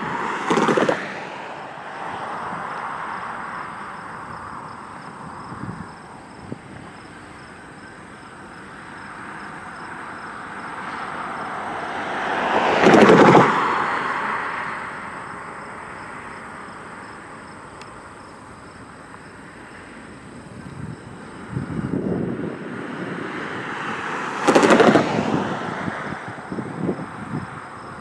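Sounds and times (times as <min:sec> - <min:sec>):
vehicle passing by: 0:00.0 - 0:07.8, 0:08.7 - 0:17.2, 0:21.2 - 0:28.0.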